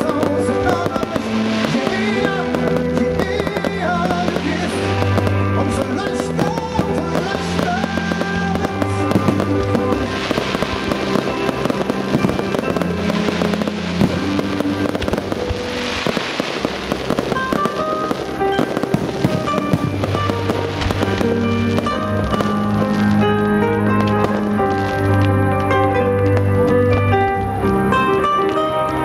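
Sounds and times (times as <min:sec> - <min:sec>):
fireworks bursting: 0:00.0 - 0:29.0
fireworks crackling: 0:00.0 - 0:29.0
music playing: 0:00.0 - 0:29.0.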